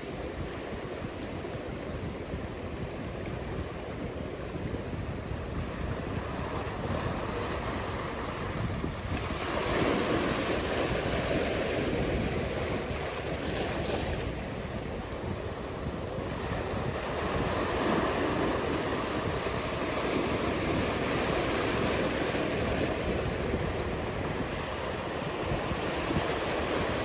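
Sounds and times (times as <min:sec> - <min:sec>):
waves breaking: 0:00.0 - 0:27.0
wind buffeting microphone: 0:00.0 - 0:27.0.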